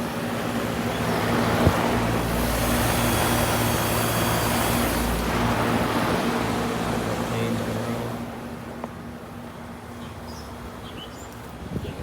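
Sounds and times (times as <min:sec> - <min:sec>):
air conditioner fan and compressor hum: 0:00.0 - 0:12.0.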